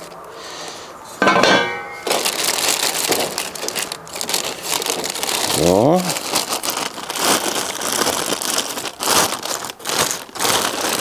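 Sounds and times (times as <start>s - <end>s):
plastic film crinkling: 2.0s - 11.0s.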